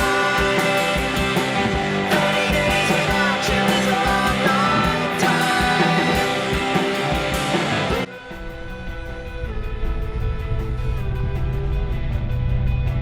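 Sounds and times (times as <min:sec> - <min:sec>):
person singing: 0:00.0 - 0:01.4, 0:02.0 - 0:12.0
distorted guitars: 0:00.0 - 0:13.0
drums: 0:00.0 - 0:13.0
rock music: 0:00.0 - 0:13.0.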